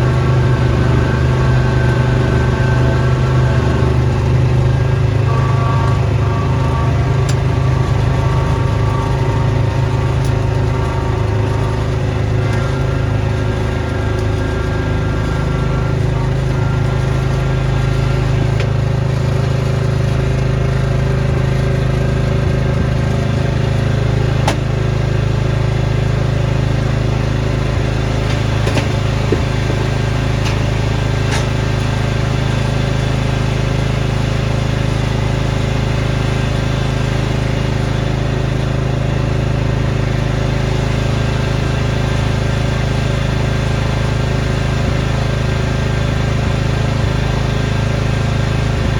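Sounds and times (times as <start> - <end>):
snowblower engine running: 0.0 - 48.9.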